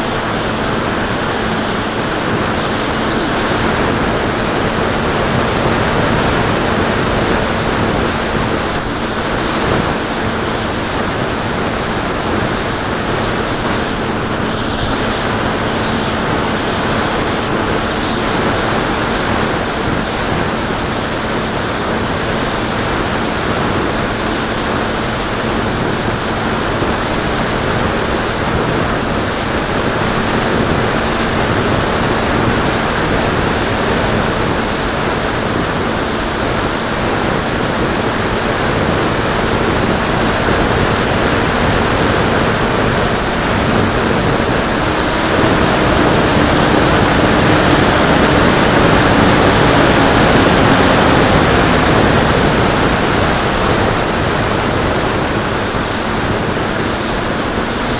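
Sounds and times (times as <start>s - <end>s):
electric motor and propeller hum: 0.0s - 57.9s
wind rushing over microphone: 0.0s - 57.9s.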